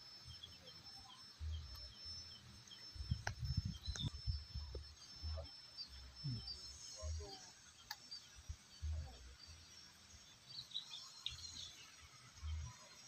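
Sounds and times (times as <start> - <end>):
faint high chirps: 0.0 - 13.0.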